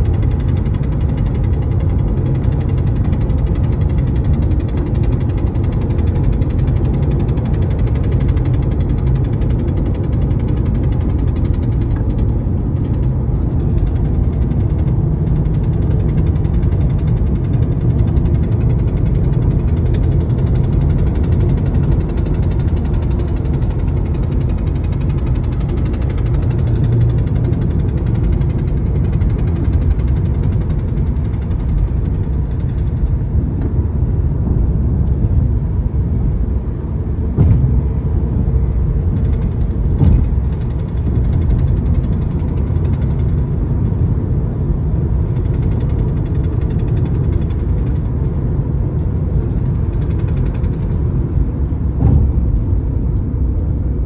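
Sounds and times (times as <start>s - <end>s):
rapid tapping from dashboard: 0.0s - 36.1s, 37.2s - 53.8s
road and engine noise: 0.0s - 54.0s.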